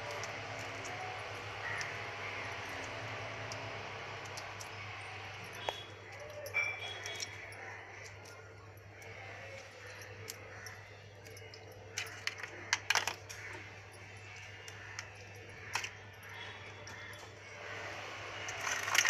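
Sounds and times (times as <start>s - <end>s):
crab shells cracking: 0.0s - 4.9s, 5.6s - 17.1s, 18.4s - 19.0s.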